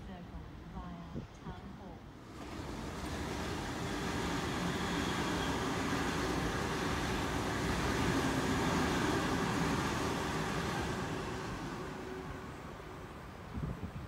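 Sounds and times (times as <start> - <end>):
train wheels rumbling on rail: 2.2 - 14.0.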